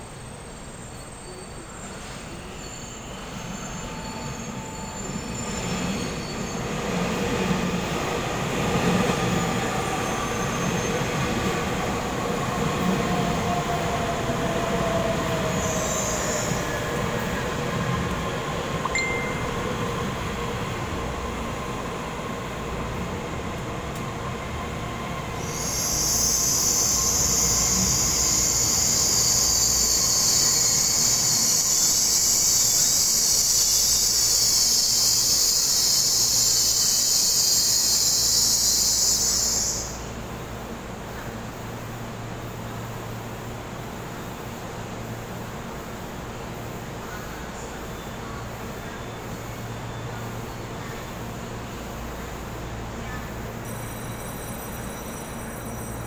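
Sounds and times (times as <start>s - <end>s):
electric train whine: 0.0s - 56.0s.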